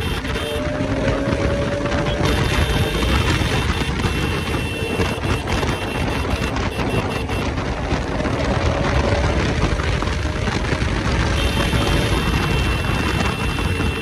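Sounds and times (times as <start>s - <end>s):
motorcycle engine running: 0.0s - 14.0s
wind rush on microphone: 0.0s - 14.0s.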